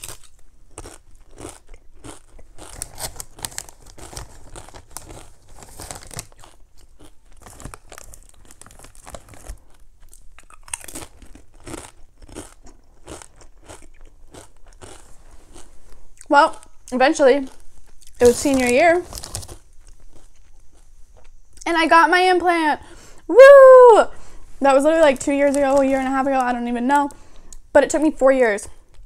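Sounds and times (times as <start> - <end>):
crunching and chewing chips: 0.0 - 21.6, 24.3 - 27.7.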